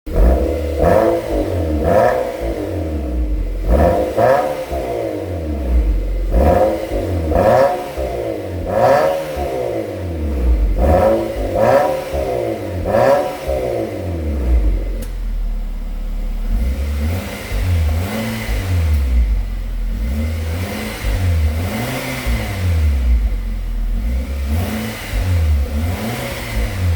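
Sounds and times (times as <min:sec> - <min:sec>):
car exhaust revving: 0:00.0 - 0:26.9.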